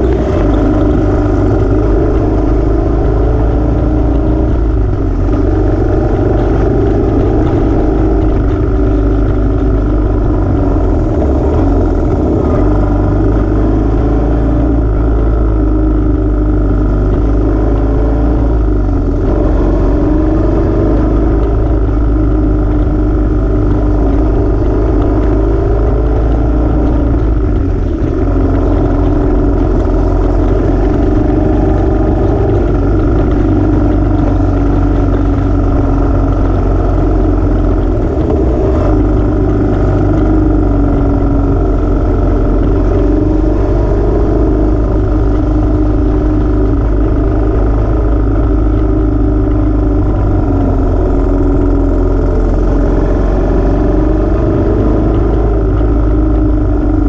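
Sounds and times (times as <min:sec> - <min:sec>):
motorcycle engine running: 0:00.0 - 0:57.0
wind rush over microphone: 0:00.0 - 0:57.0.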